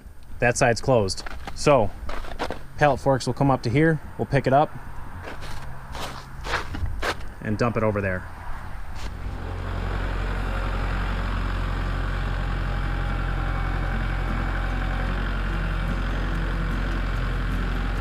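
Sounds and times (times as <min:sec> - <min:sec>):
tractor diesel engine running: 0:01.2 - 0:18.0.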